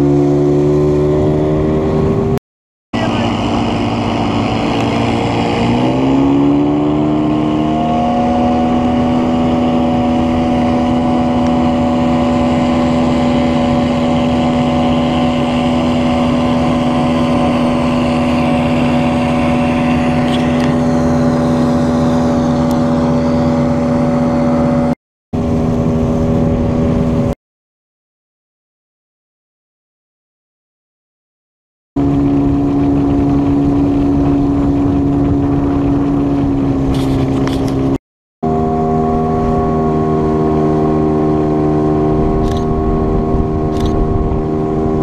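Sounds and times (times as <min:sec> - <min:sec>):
outboard motor throttling up: 0:00.0 - 0:02.4, 0:03.0 - 0:27.4, 0:32.0 - 0:45.0.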